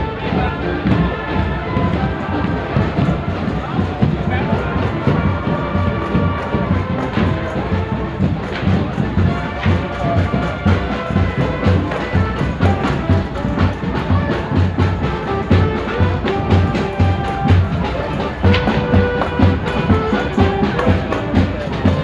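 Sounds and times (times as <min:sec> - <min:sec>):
bass drum beat: 0:00.0 - 0:22.0
street band music: 0:00.0 - 0:22.0.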